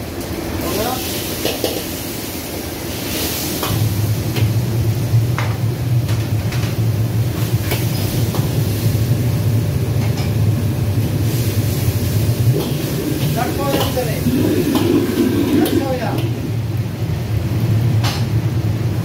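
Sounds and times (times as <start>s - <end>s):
gas burners roaring: 0.0s - 19.0s.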